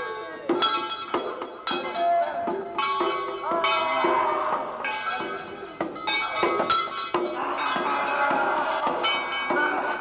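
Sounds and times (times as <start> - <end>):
struck metallic percussion ringing: 0.0 - 10.0.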